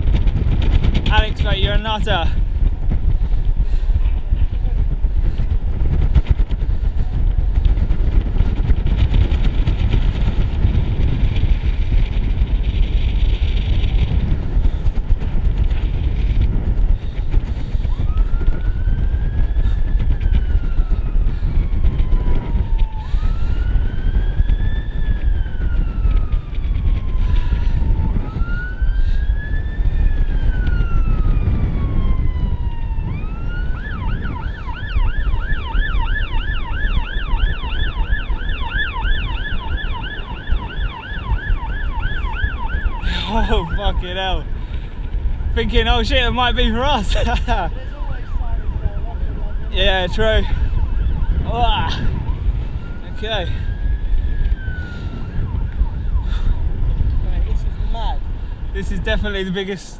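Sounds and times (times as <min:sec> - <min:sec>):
wind rumbling on microphone: 0:00.0 - 0:59.9
distant siren wailing: 0:06.6 - 0:58.7.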